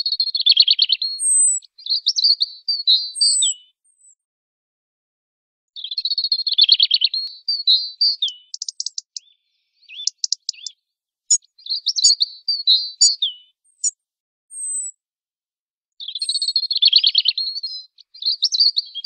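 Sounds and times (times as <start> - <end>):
robin singing: 0.0 - 4.2, 5.8 - 15.0, 16.0 - 19.0.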